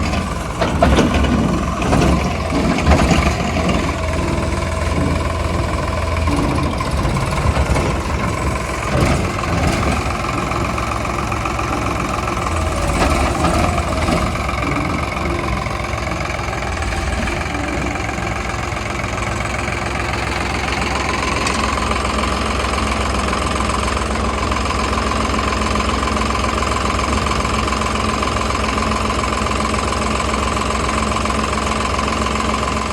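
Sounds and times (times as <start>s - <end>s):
heavy machinery diesel engine running: 0.0s - 32.9s.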